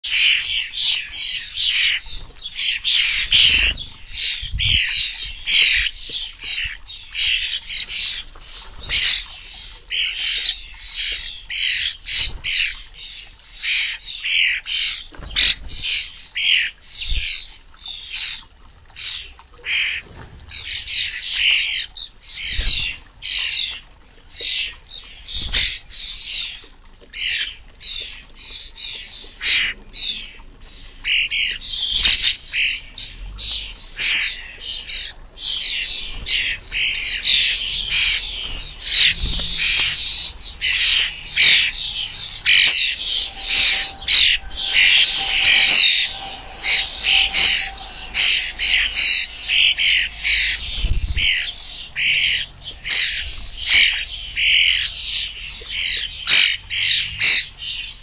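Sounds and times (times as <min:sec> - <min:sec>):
fledgling starlings begging calls: 0:00.0 - 0:18.4, 0:24.4 - 0:26.6, 0:27.2 - 0:58.0.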